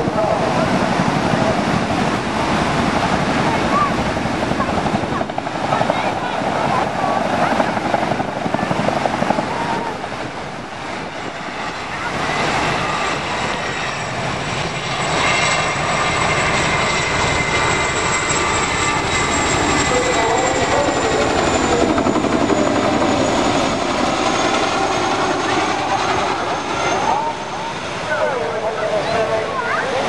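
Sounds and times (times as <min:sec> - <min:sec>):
twin-rotor helicopter flying overhead: 0:00.0 - 0:30.0.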